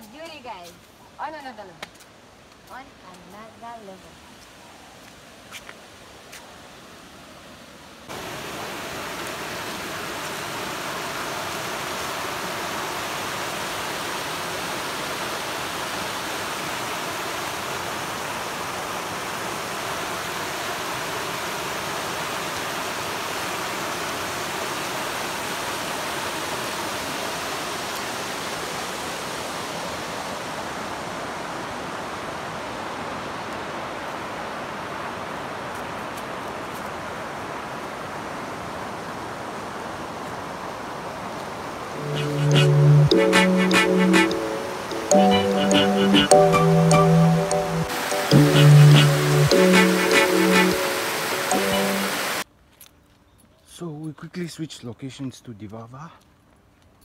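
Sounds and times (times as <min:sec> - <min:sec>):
water rushing over rapids: 0:02.3 - 0:52.5.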